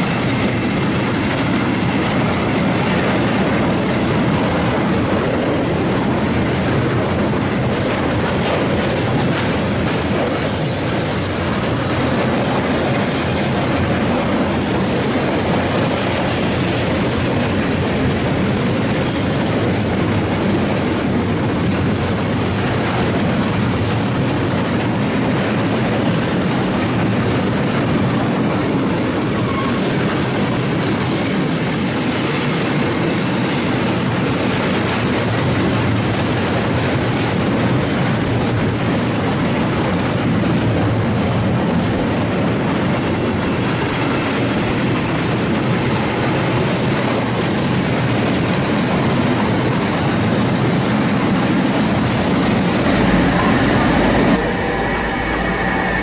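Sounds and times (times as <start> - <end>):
steel wheels on rails: 0.0 - 56.0.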